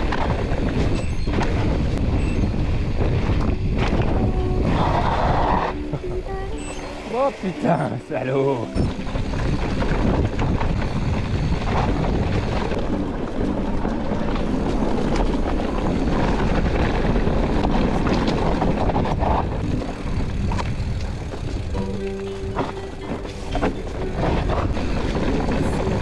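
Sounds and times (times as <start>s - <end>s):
wind buffeting microphone: 0.0s - 6.6s, 8.4s - 26.0s.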